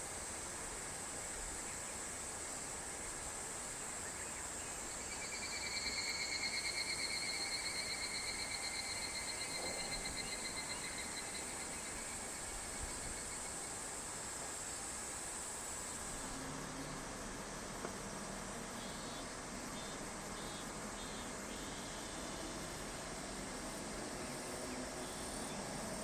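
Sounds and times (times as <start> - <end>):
cicada pulsed trill: 0.0 - 26.0
high hiss of insects: 0.0 - 26.0.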